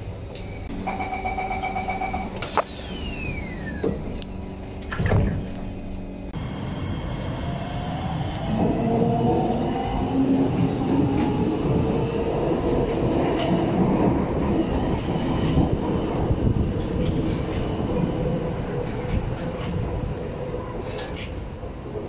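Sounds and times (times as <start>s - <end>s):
train wheels rumbling on rail: 3.8s - 22.0s.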